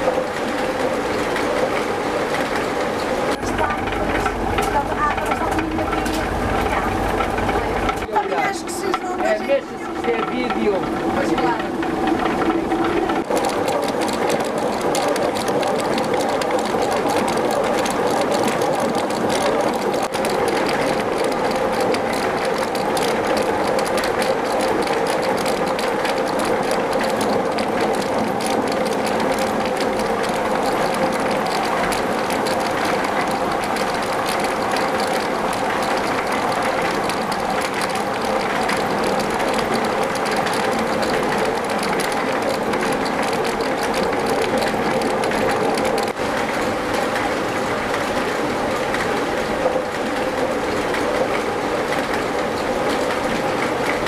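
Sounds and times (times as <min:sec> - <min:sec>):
water mill clattering: 0:00.0 - 0:54.0.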